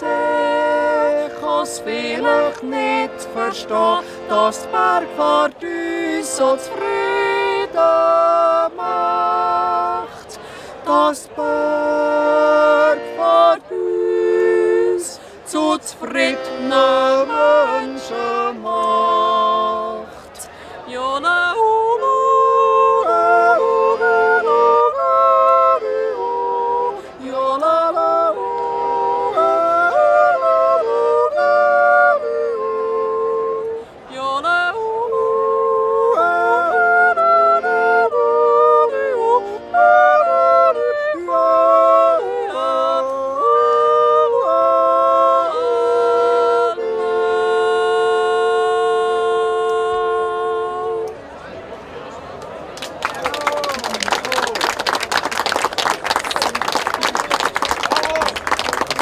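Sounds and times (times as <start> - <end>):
woman and man yodeling: 0.0 - 10.2, 10.9 - 20.1, 21.0 - 51.1
button accordion: 0.0 - 20.3, 21.5 - 33.8, 34.4 - 51.1.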